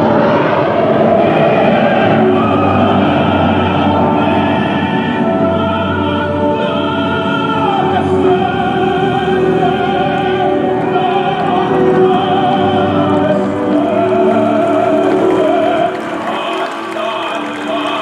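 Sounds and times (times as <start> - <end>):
operatic solo voice singing: 0.0 - 18.0
orchestra: 0.0 - 18.0.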